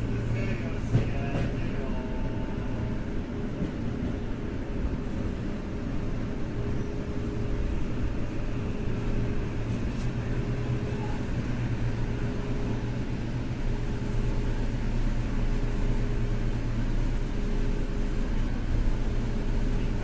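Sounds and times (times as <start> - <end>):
train rumbling in tunnel: 0.0 - 20.0.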